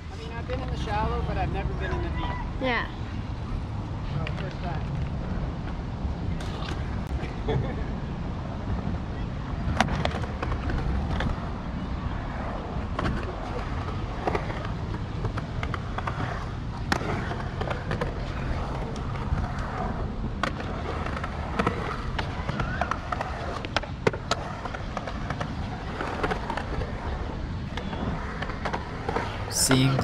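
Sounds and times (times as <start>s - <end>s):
skateboard wheels rolling on concrete: 0.0s - 30.0s
skateboards clacking on ground: 4.1s - 7.4s, 8.6s - 30.0s.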